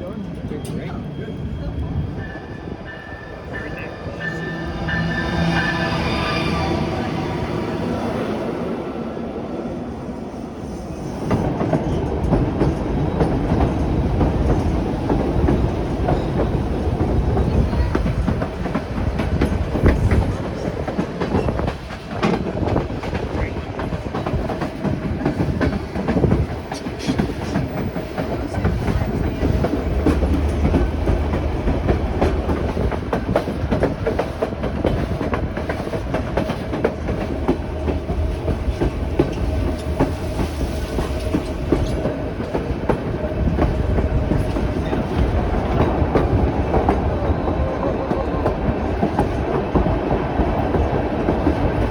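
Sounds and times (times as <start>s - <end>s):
train cars rumbling: 0.0s - 51.9s.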